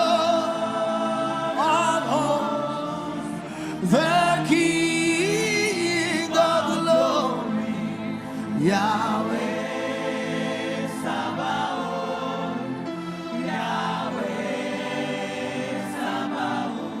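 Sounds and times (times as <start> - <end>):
choir singing slow gospel: 0.0 - 17.0.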